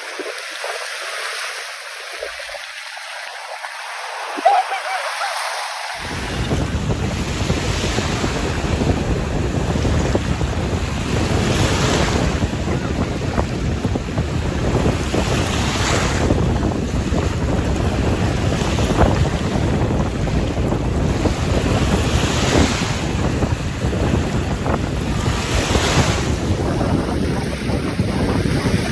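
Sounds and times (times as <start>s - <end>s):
surf breaking on shore: 0.0s - 28.9s
wind buffeting microphone: 2.0s - 28.9s.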